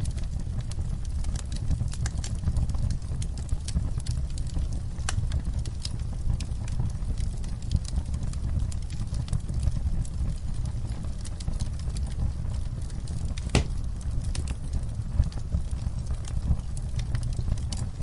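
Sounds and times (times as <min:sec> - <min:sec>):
low rumble of flames: 0:00.0 - 0:18.0
wood crackling and popping: 0:00.0 - 0:18.0.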